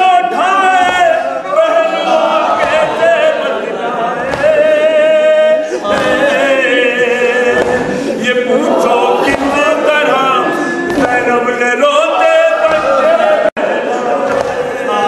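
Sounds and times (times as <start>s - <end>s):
men singing a lament unaccompanied: 0.0s - 15.0s.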